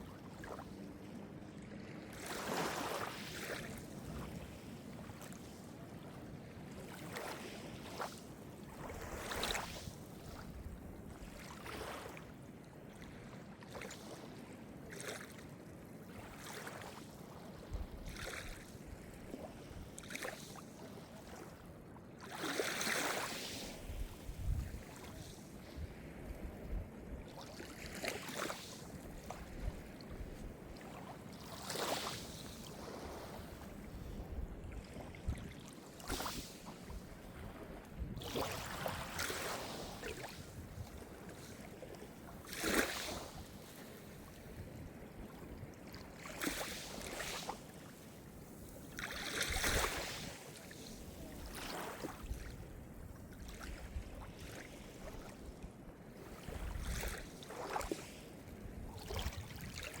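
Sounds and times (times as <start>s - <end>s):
small waves breaking on shore: 0.0s - 60.0s.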